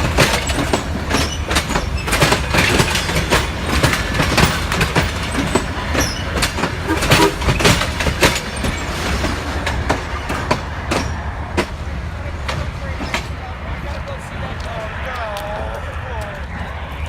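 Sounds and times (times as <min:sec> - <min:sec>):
train wheels clicking over rail joints: 0:00.0 - 0:14.7
train rumble: 0:00.0 - 0:17.0.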